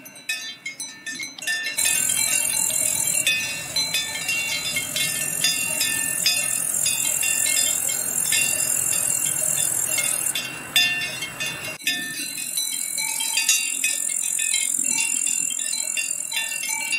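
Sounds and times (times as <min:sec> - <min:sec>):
cowbells clanking: 0:00.0 - 0:16.9.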